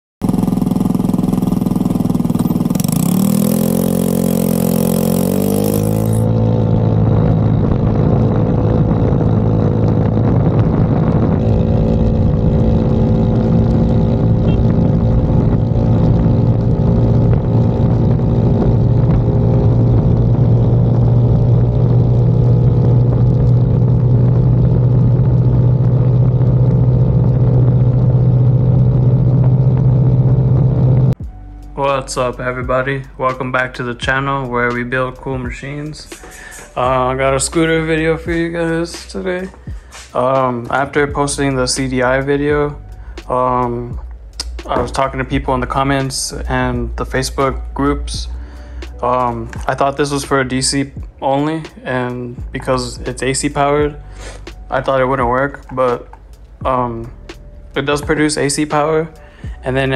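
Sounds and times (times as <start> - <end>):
scooter engine accelerating: 0.2 - 59.9.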